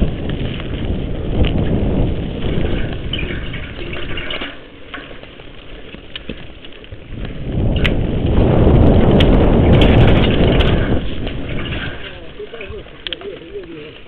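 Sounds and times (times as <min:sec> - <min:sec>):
wind on microphone: 0:00.0 - 0:04.6, 0:06.2 - 0:14.0
bike clicks and rattles: 0:00.0 - 0:14.0
bike tyres rumbling on dirt: 0:00.0 - 0:14.0.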